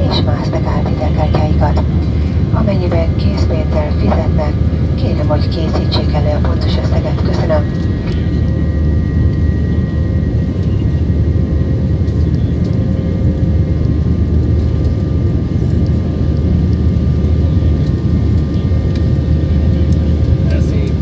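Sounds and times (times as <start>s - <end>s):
airplane cabin engine roar: 0.0s - 21.0s.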